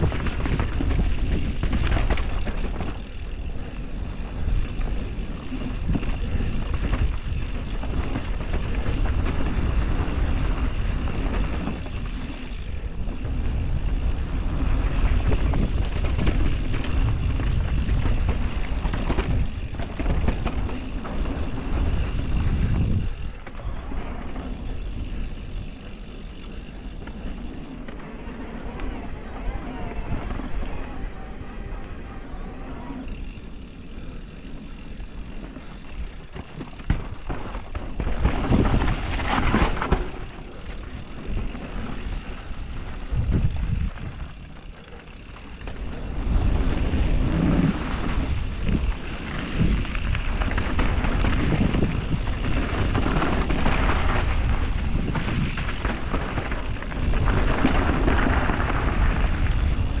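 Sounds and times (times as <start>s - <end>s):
wind buffeting microphone: 0.0s - 27.7s, 33.0s - 60.0s.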